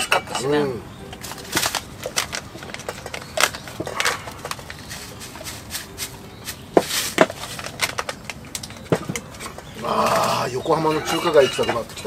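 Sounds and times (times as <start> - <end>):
tableware and utensils clinking: 0.0 - 12.0.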